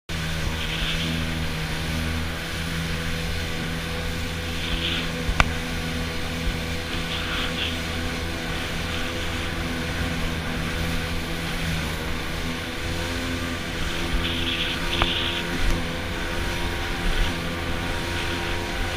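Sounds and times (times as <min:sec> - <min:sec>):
jet ski engine droning: 0:00.1 - 0:18.9
water rushing: 0:00.1 - 0:18.9
wind: 0:00.1 - 0:18.9.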